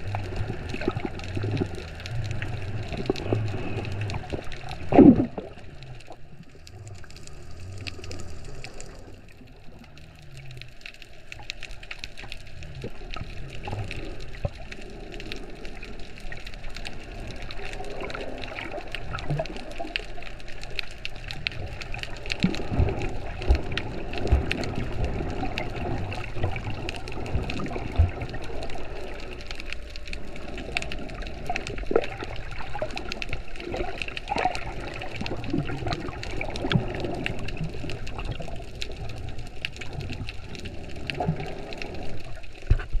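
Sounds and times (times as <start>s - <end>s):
crackle of small clicks: 0.0s - 43.0s
muffled underwater wash: 0.0s - 43.0s.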